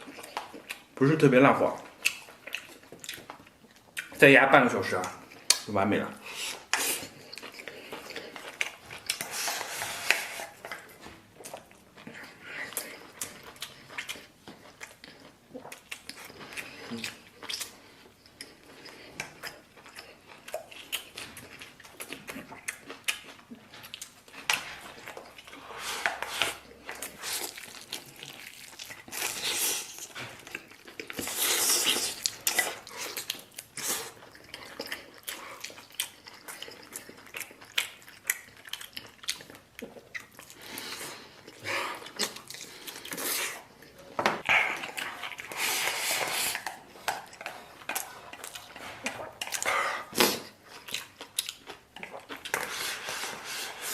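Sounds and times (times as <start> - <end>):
person chewing: 0.0 - 1.0, 1.6 - 4.2, 4.8 - 53.9.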